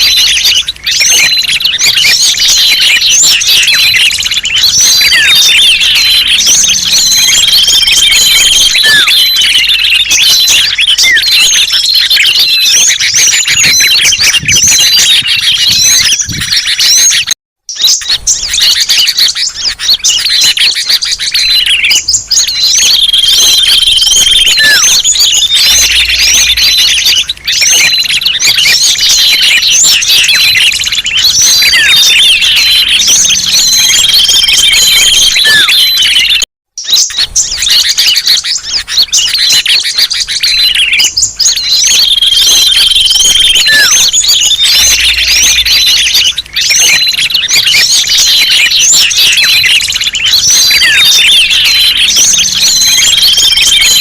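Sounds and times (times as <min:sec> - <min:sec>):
held whistle: 0:00.0 - 0:54.0
songbirds chirping and twittering: 0:00.0 - 0:54.0.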